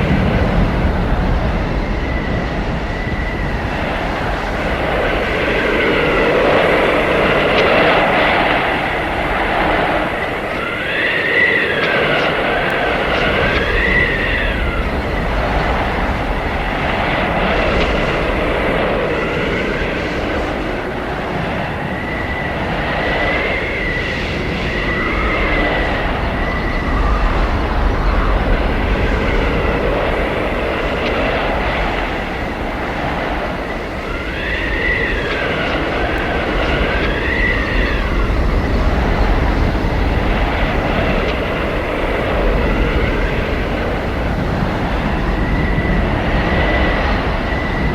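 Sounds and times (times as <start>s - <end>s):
wind blowing hard: 0.0s - 47.9s
wind whistling howls: 0.0s - 47.9s.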